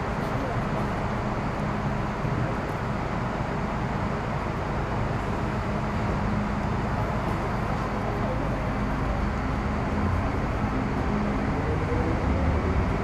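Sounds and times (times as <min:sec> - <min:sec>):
train interior hum: 0:00.0 - 0:13.0.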